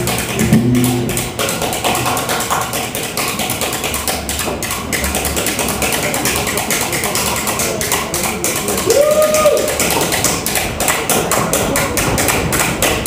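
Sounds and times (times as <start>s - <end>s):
rapid percussive tapping and knocking: 0.0s - 13.0s.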